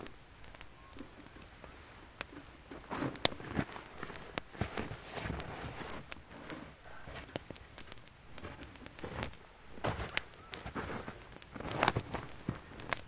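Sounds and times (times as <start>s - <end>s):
campfire crackling: 0.0s - 13.0s
sharp pops from fire: 0.0s - 13.0s.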